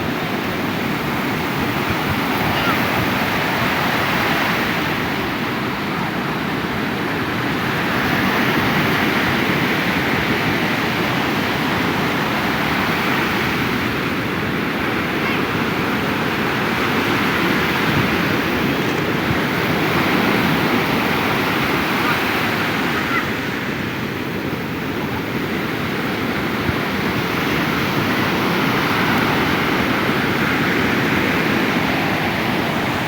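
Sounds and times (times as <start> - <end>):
surf waves breaking on beach: 0.0 - 33.0.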